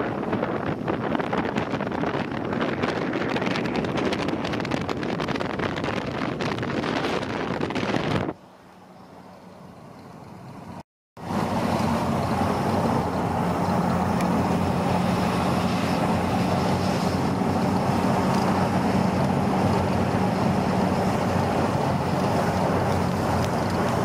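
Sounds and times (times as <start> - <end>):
engine and tyre hum: 0.0 - 24.0
road and wind noise in vehicle: 0.0 - 24.0.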